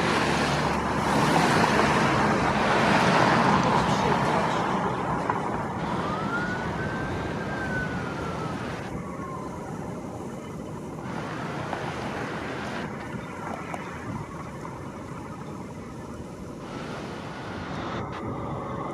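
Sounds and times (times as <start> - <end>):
emergency vehicle siren wailing: 0.0 - 18.9
road traffic noise: 0.0 - 18.9.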